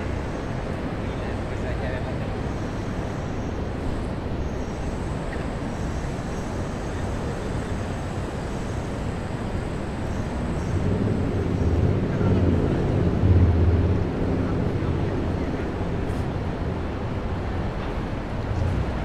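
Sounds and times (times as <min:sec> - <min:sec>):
low rumble of city vehicles: 0:00.0 - 0:19.0.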